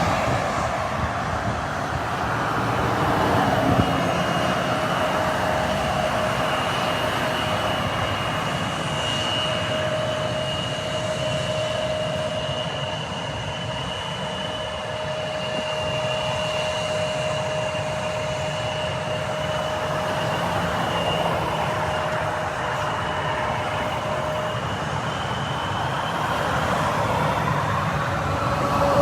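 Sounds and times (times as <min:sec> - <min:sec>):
high thin engine whine: 0:00.0 - 0:29.0
jet engines roaring: 0:00.0 - 0:29.0.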